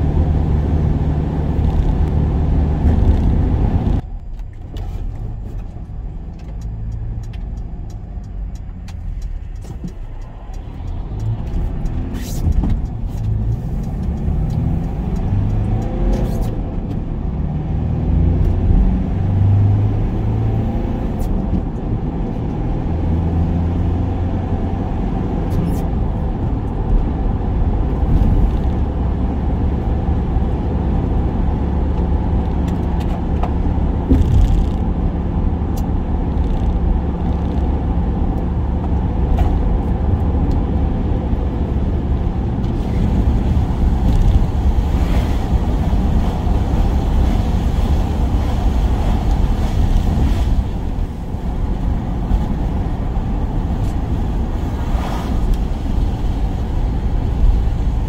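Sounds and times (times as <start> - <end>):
van engine and road noise: 0.0 - 58.0.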